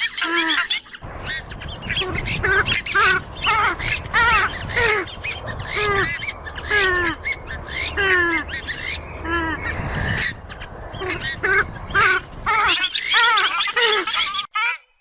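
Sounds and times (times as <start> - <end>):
harsh nasal bird calls: 0.0 - 14.9.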